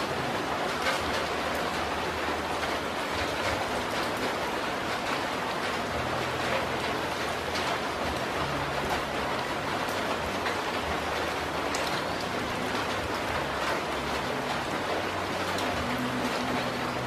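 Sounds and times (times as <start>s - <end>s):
rain falling on foliage: 0.0s - 17.0s.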